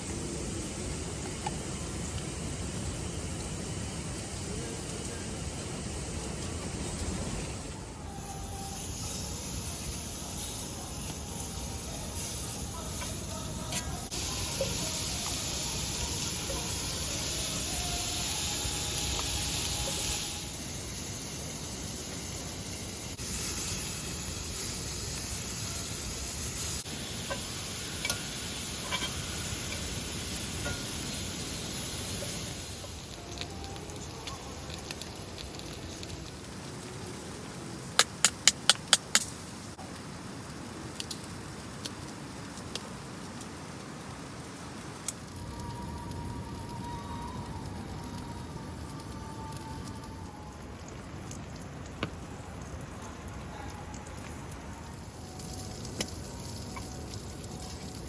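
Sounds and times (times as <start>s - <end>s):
food sizzling in a pan: 0.0s - 38.5s, 40.8s - 58.0s.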